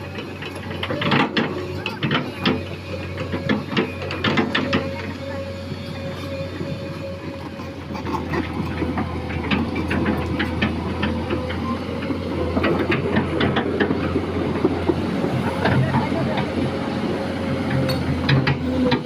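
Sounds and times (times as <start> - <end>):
excavator engine whining: 0.0 - 19.0
steel tracks clanking: 0.0 - 19.0.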